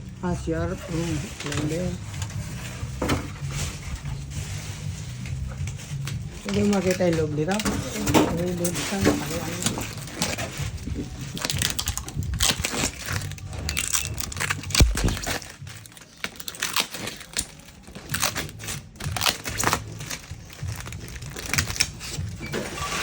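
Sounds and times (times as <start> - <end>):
plastic packaging crinkling and tearing: 0.0 - 23.0.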